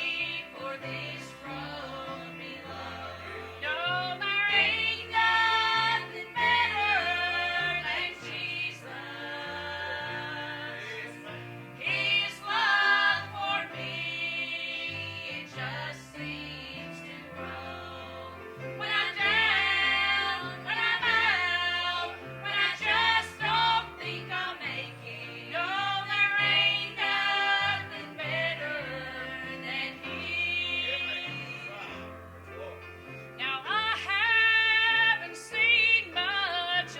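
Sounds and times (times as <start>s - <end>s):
gospel choir singing: 0.0s - 32.2s, 33.4s - 36.9s.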